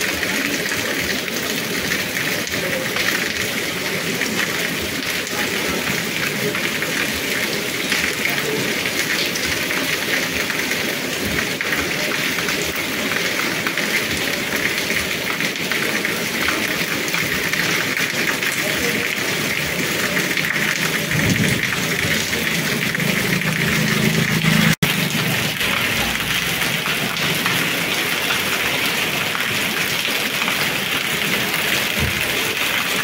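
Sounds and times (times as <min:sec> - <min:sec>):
rain pattering on stone paving: 0:00.0 - 0:33.0.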